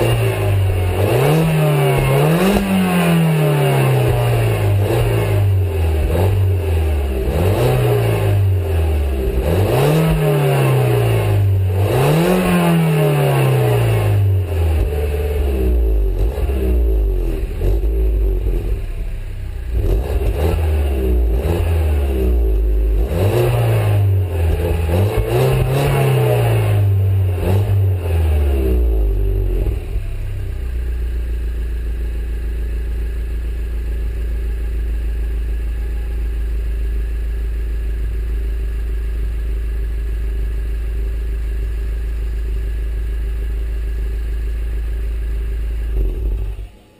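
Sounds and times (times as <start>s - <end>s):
car engine revving and idling: 0.0s - 46.9s.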